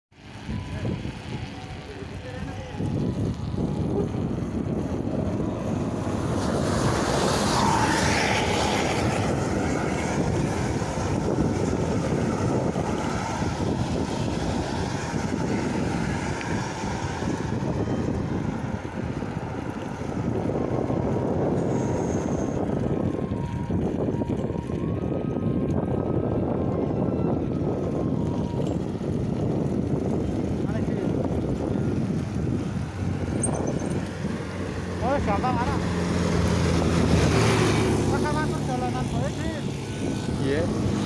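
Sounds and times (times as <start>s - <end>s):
road and vehicle noise: 0.1s - 41.0s
wind rushing over microphone: 0.1s - 41.0s.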